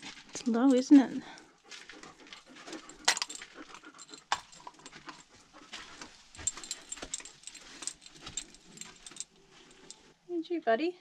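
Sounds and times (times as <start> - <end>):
dog breathing and moving: 0.0 - 10.2.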